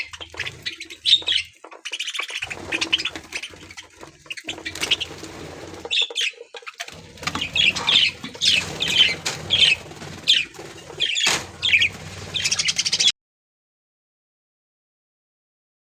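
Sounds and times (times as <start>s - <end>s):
budgerigars chirping and chattering: 0.0s - 13.1s.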